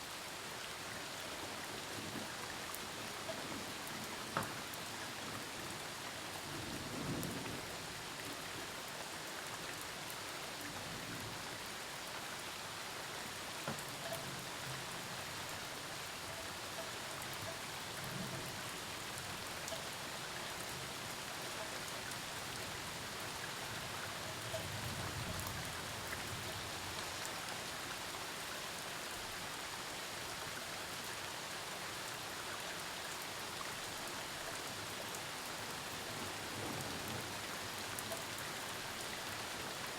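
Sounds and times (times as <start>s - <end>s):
heavy rain falling: 0.2s - 39.9s.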